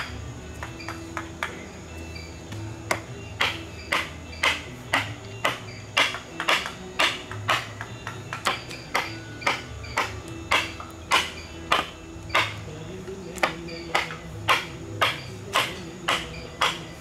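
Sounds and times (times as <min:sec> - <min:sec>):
mallet striking chisel into wood: 0:00.0 - 0:01.6, 0:02.9 - 0:12.7, 0:13.3 - 0:17.0.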